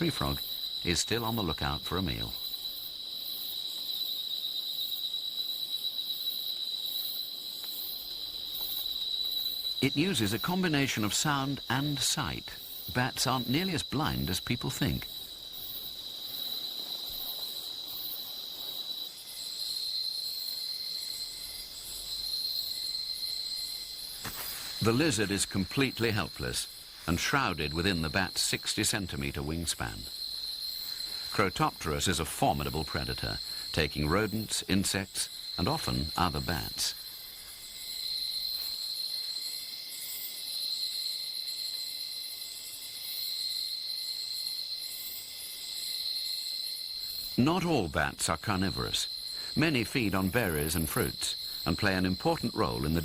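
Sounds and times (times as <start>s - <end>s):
crickets trilling: 0.0s - 53.0s
insects buzzing: 0.0s - 53.0s.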